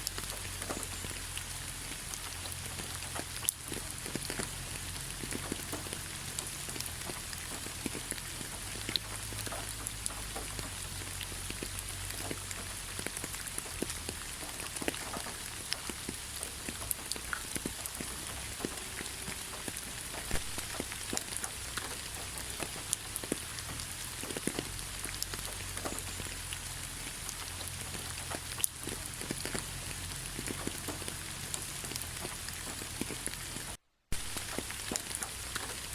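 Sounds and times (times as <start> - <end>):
rain falling in a forest: 0.0 - 35.9.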